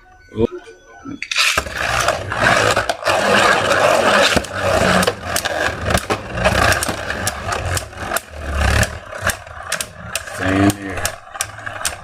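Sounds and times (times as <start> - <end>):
spinning tops grinding: 1.2 - 12.0.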